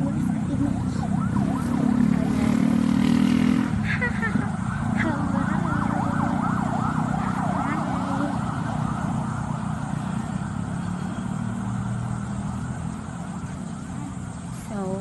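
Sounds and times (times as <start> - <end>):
low hum of road traffic: 0.0 - 15.0.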